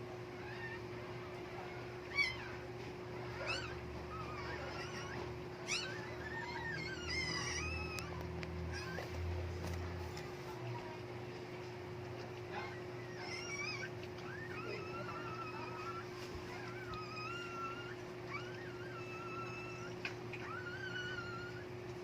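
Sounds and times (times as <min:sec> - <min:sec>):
steady low hum: 0:00.0 - 0:22.0
dog whining: 0:00.1 - 0:10.2, 0:12.5 - 0:22.0.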